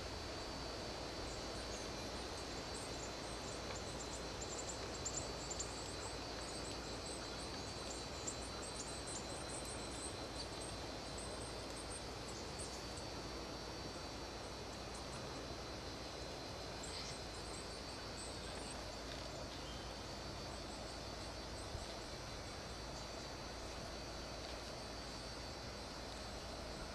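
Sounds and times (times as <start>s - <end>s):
even outdoor hiss: 0.0s - 26.9s.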